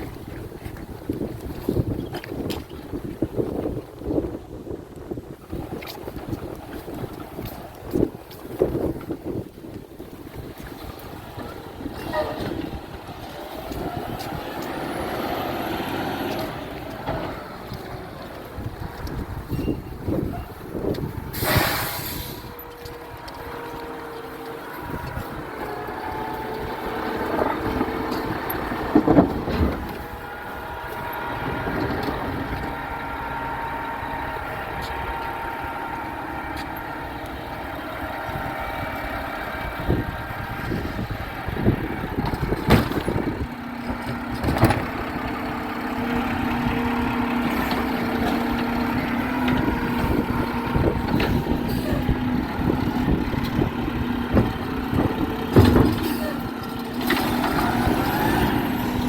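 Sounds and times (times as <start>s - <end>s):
garbage truck engine running: 0.0s - 59.0s.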